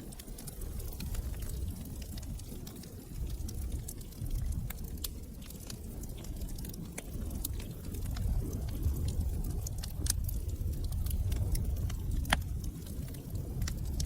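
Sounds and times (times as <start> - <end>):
log fire crackling: 0.0 - 14.0.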